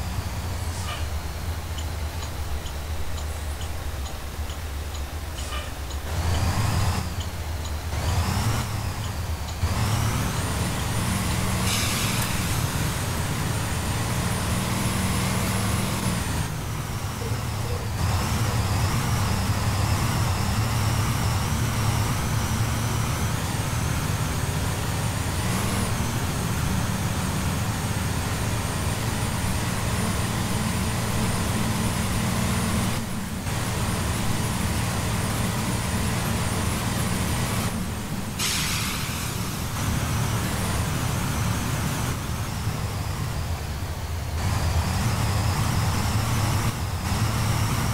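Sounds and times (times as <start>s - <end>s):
bus engine changing gear: 0.0s - 47.9s.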